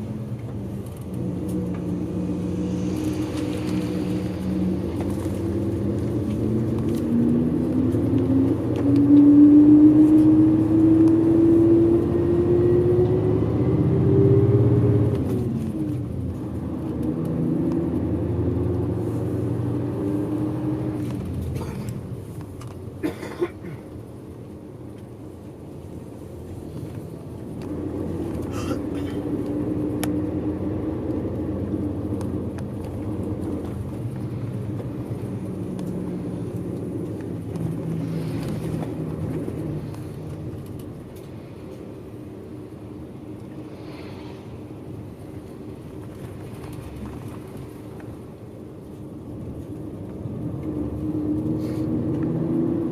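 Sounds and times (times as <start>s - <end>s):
bus engine revving: 0.0s - 52.9s.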